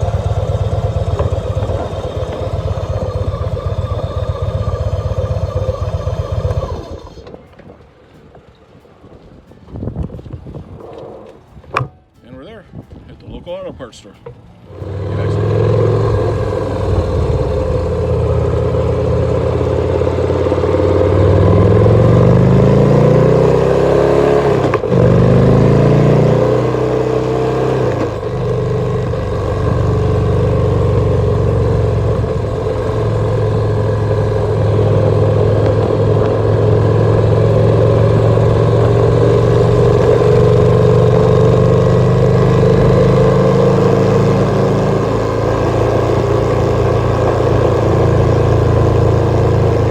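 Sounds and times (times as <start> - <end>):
motorcycle engine shifting gears: 0.0 - 12.1, 14.2 - 49.9.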